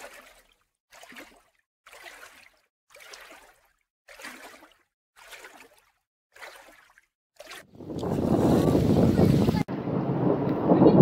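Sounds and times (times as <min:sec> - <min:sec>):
small waves lapping at shore: 0:00.0 - 0:09.7.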